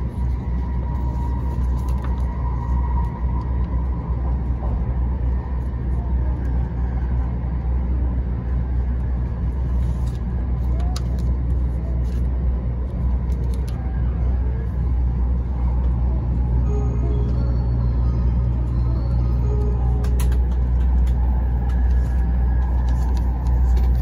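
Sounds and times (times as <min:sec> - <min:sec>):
vehicle interior rumble: 0:00.0 - 0:24.0.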